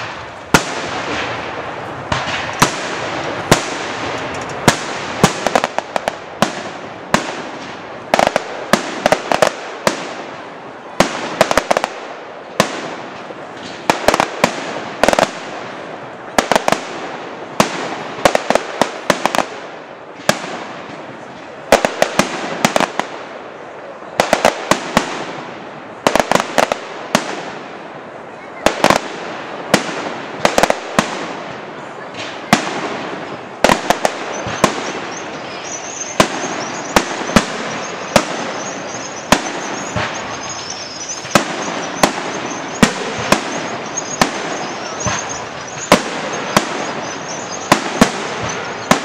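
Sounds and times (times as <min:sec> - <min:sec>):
fireworks bursting with sharp bangs: 0:00.0 - 0:49.0
steady hiss: 0:00.0 - 0:49.0.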